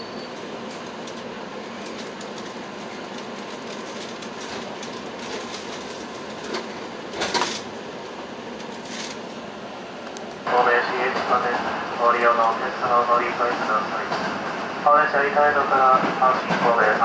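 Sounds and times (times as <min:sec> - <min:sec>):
train running noise: 0:00.0 - 0:17.0.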